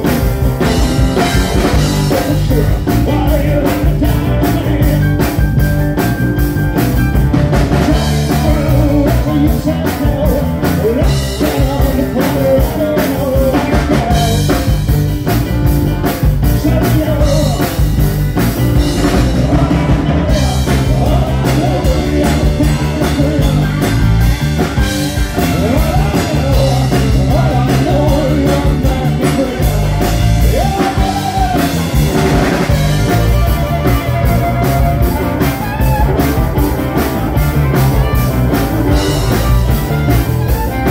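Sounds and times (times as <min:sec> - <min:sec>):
man singing: 0:00.0 - 0:06.1, 0:07.5 - 0:36.4
bass guitar: 0:00.0 - 0:40.9
drum kit: 0:00.0 - 0:40.9
electric keyboards: 0:00.0 - 0:40.9.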